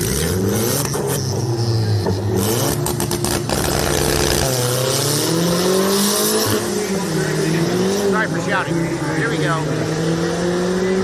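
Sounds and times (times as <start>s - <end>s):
car engine under load: 0.0s - 11.0s.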